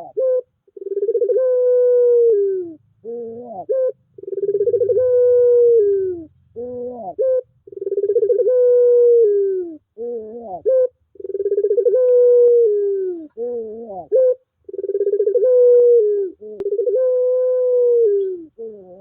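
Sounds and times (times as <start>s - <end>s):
turtle dove cooing: 0.0s - 19.0s.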